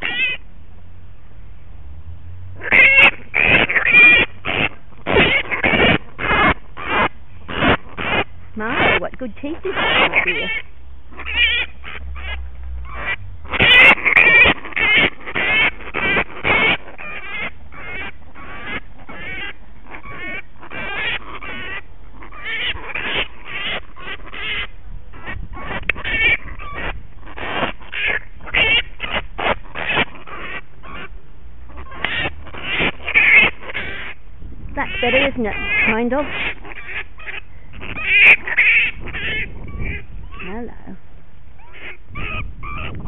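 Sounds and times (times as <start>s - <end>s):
bat screeching: 0.0s - 0.4s, 2.6s - 9.0s, 9.6s - 31.1s, 31.7s - 34.2s, 34.8s - 40.6s.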